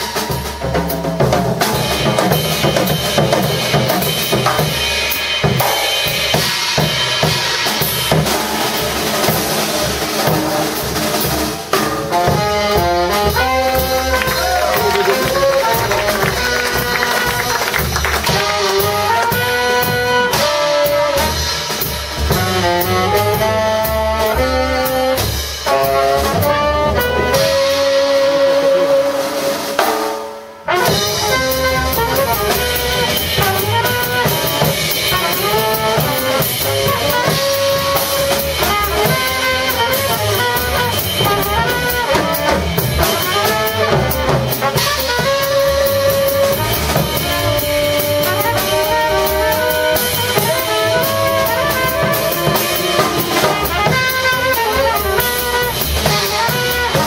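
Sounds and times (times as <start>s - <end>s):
bass: 0.0s - 57.0s
drum kit playing: 0.0s - 57.0s
trumpet and saxophone melody: 0.0s - 57.0s.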